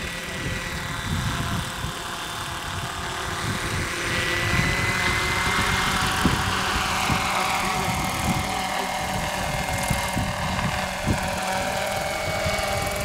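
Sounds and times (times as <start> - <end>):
high motor whine: 0.0 - 13.0
model helicopter rotor noise: 0.0 - 13.0.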